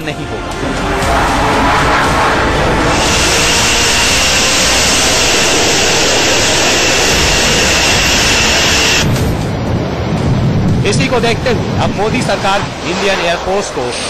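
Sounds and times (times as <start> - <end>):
jet engine roaring: 0.4 - 14.0.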